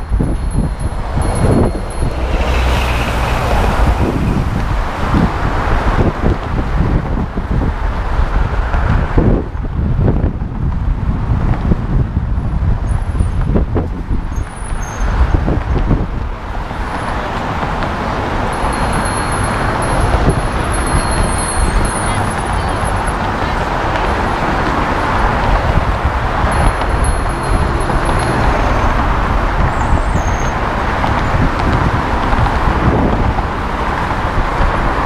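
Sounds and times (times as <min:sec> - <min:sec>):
road traffic passing: 0:00.0 - 0:35.0.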